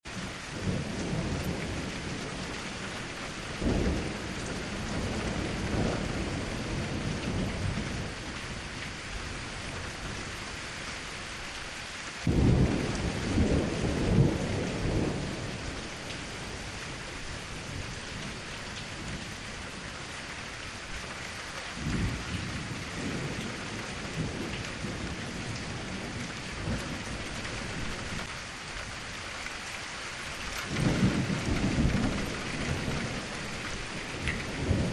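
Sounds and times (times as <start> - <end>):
steady rain falling: 0.0 - 34.9
thunder rumbling: 0.1 - 10.6, 12.2 - 20.8, 21.7 - 29.1, 30.3 - 34.9.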